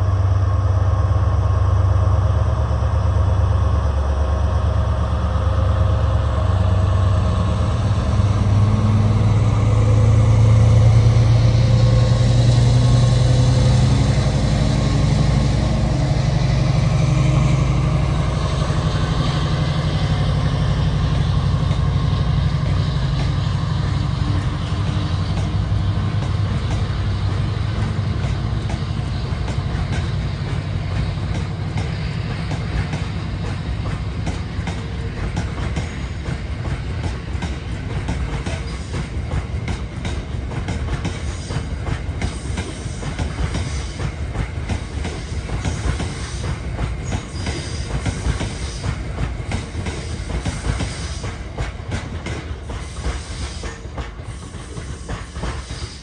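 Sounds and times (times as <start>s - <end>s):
train engine humming: 0.0s - 56.0s.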